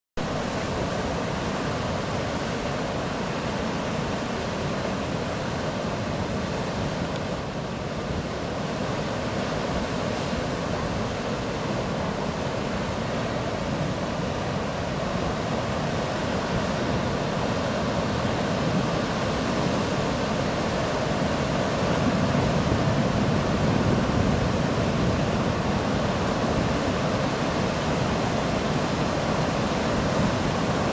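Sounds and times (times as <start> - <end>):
ocean surf breaking: 0.2 - 30.9.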